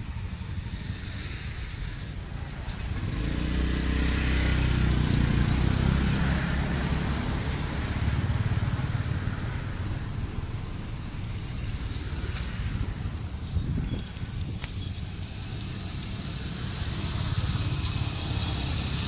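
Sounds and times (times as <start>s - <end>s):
vehicle engine rumble passing: 0.0s - 19.0s.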